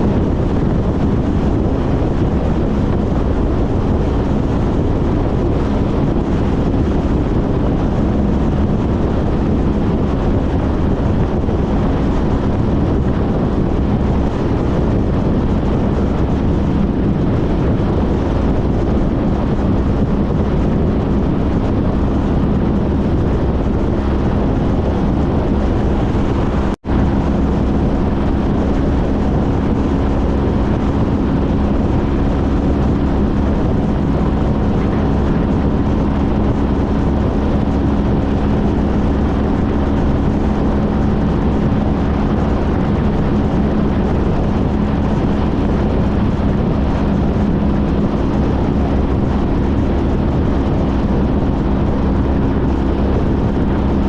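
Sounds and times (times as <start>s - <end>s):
motorcycle engine cruising: 0.0s - 54.0s
wind buffeting microphone: 0.0s - 54.0s.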